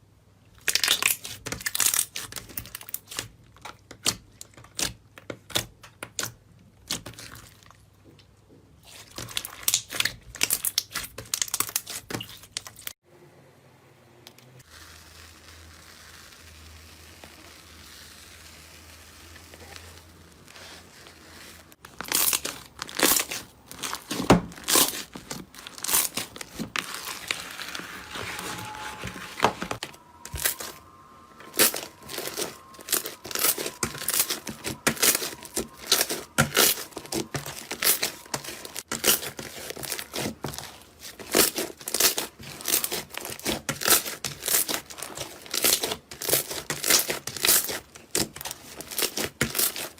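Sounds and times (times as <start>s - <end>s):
brittle material crunching: 0.6s - 7.8s, 8.8s - 13.0s, 14.6s - 49.9s.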